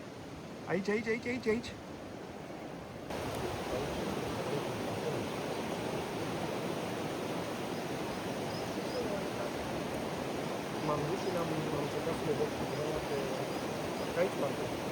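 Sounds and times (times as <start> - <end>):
mountain river rushing: 0.0 - 14.9.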